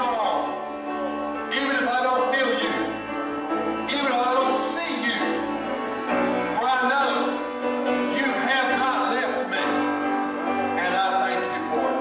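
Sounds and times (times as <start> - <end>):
worship song with instrumental backing: 0.0 - 12.0.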